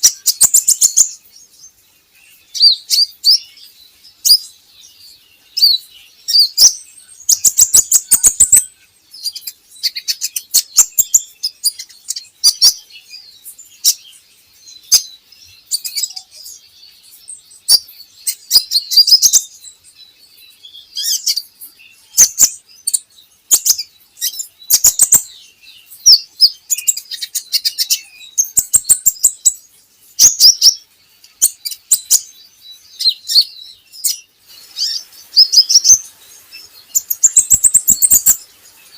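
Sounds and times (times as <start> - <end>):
sunbird chirps and trills: 0.0 - 38.9.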